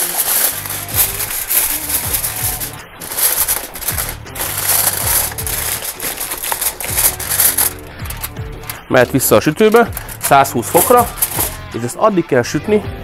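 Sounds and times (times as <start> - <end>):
aluminium foil crinkling: 0.0 - 11.7
background music: 0.0 - 13.0.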